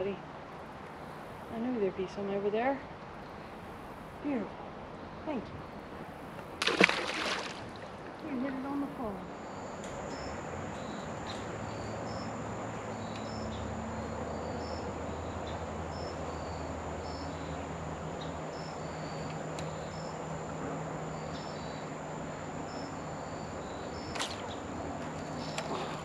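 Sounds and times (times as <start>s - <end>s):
insects chirping: 0.0s - 26.0s
rushing background noise: 0.0s - 26.0s.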